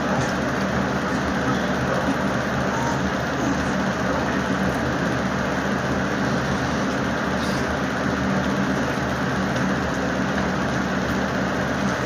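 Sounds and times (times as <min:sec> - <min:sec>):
steady droning hum: 0:00.0 - 0:12.0.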